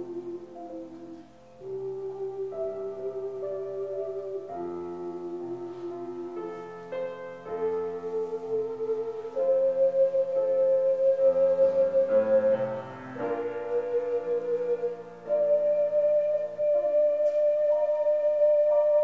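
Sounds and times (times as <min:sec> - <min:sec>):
ocarina ensemble playing a hymn: 0:00.0 - 0:19.0.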